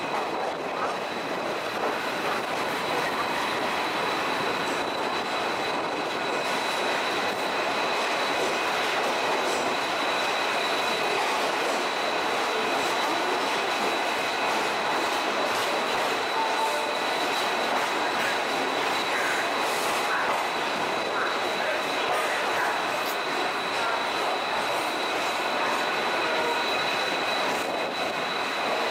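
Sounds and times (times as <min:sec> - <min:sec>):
train running rumble: 0:00.0 - 0:28.9.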